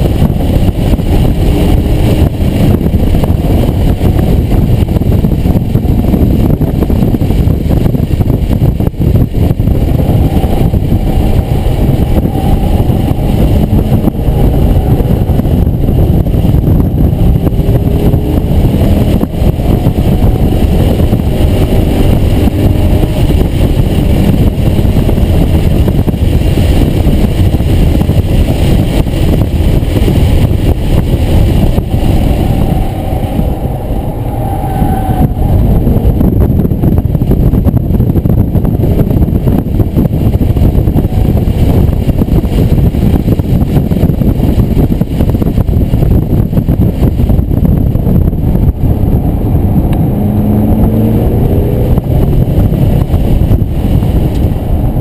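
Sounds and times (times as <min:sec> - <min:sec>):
car engine accelerating and shifting: 0:00.0 - 0:55.0
road and wind noise: 0:00.0 - 0:55.0.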